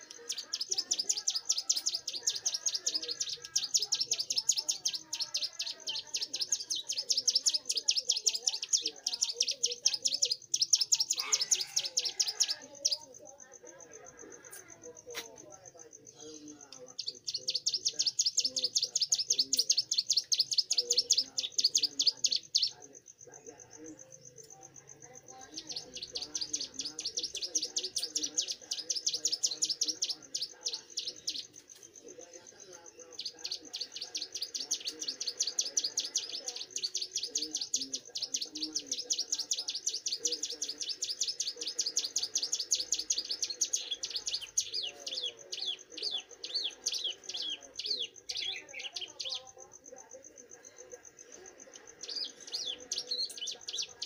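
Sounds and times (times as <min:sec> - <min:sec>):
bird singing high ticking notes: 0:00.0 - 0:49.9, 0:50.5 - 0:54.0.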